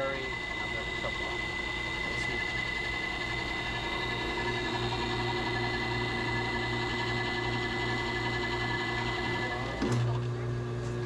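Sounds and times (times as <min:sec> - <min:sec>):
high constant whine: 0:00.0 - 0:10.1
ice cream machine humming: 0:00.0 - 0:11.0.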